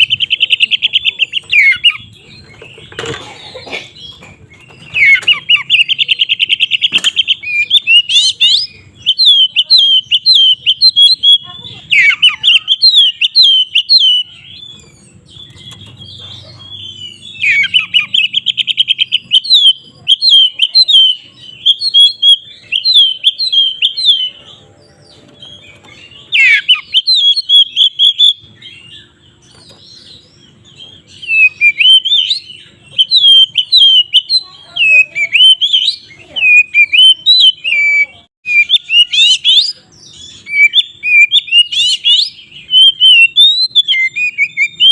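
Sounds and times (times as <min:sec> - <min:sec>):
magpie-robin singing: 0:00.0 - 0:44.9.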